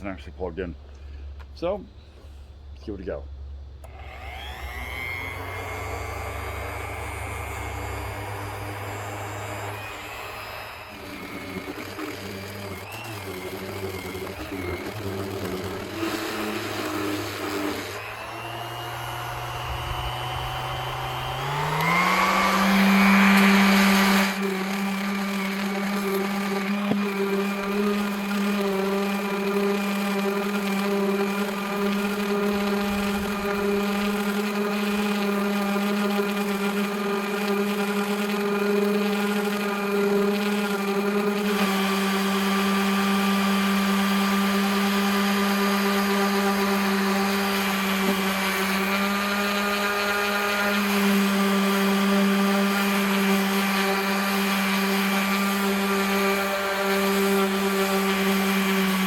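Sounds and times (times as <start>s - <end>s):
orbital sander sanding wood: 3.8s - 59.0s.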